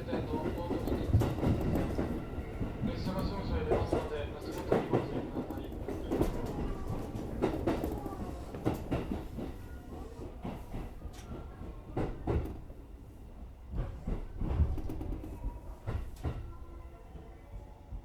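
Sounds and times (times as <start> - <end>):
train knocks and clatter: 0.0 - 17.3
train low rumble: 0.0 - 18.0.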